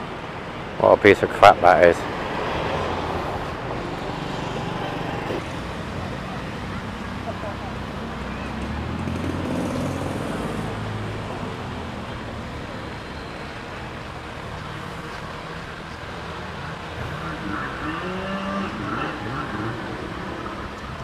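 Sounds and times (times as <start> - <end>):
outdoor noise rushing: 0.0 - 21.0
vehicle engine humming: 0.0 - 21.0.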